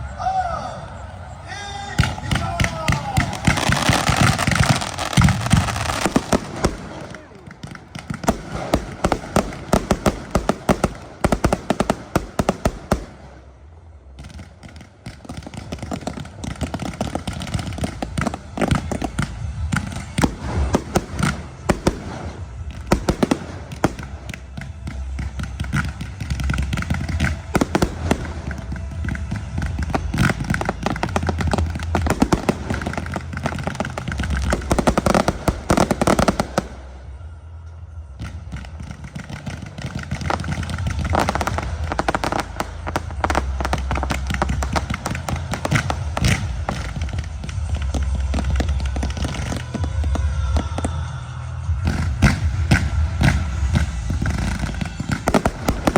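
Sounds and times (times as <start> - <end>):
fireworks crackling bangs: 0.0 - 55.9
low rumble: 0.0 - 55.9.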